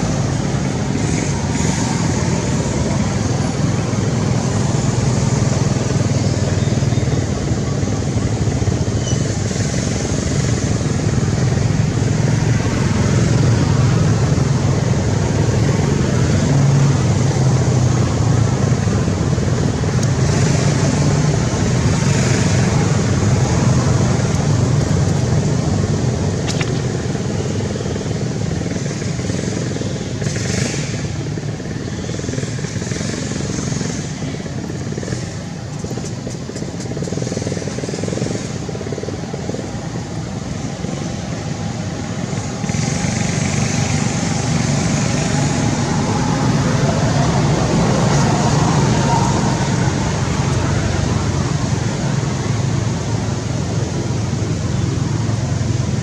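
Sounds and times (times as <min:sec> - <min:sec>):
traffic rumble: 0:00.0 - 0:56.0.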